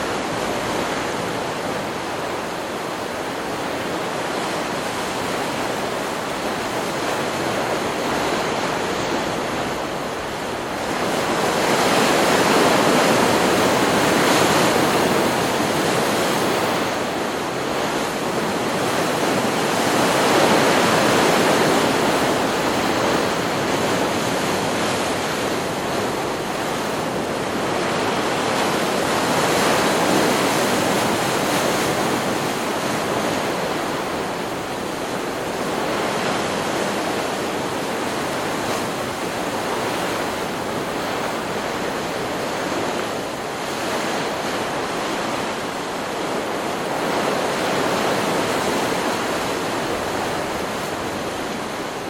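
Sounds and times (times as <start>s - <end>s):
waves breaking on a beach: 0.0s - 52.0s.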